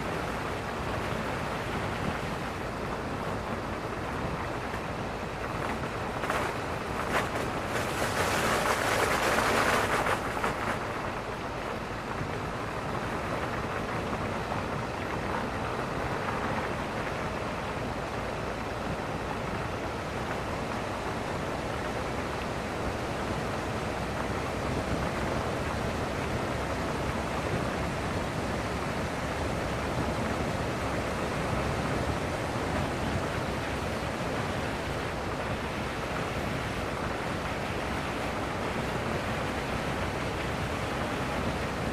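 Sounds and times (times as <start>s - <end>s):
wind rush on microphone: 0.0s - 41.9s.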